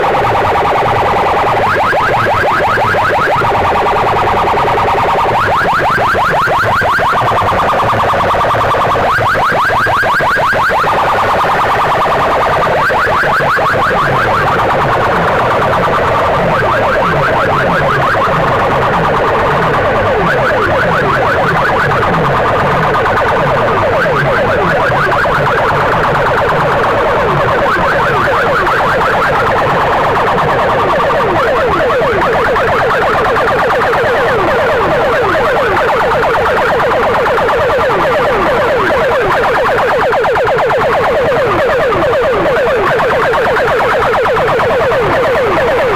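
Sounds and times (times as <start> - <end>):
rising electronic siren chirps: 0.0 - 45.9
warbling siren tone: 0.0 - 45.9.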